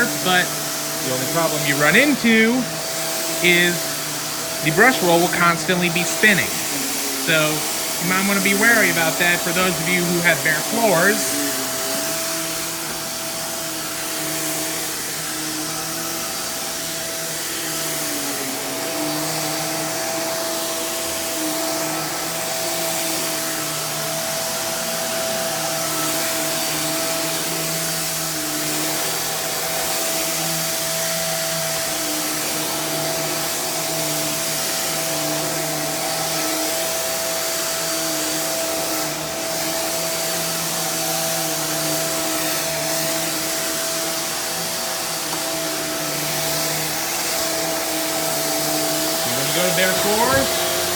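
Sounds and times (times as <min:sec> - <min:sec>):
upright vacuum running: 0:00.0 - 0:50.9.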